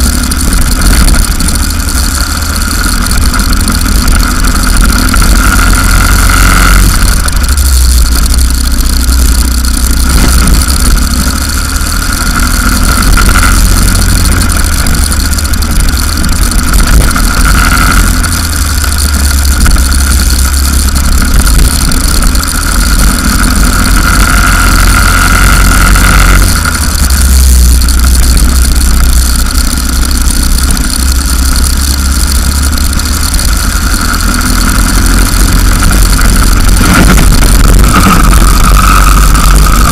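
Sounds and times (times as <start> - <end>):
go-kart engine racing: 0.0 - 39.9
wind rumble on microphone: 0.0 - 39.9.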